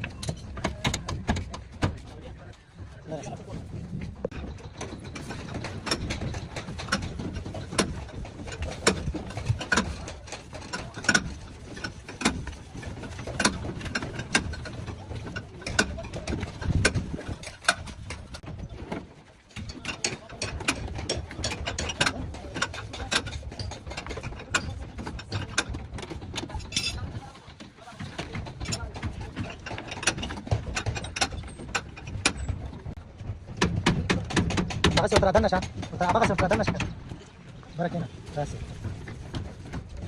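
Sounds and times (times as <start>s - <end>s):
hand tools clicking and knocking: 0.0s - 2.2s, 4.2s - 18.6s, 19.5s - 37.2s.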